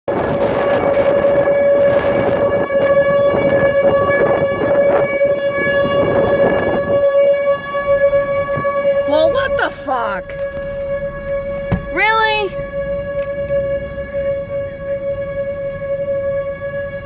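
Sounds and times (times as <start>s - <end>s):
road and wind noise: 0.1s - 17.0s
warning siren steady tone: 0.1s - 17.0s.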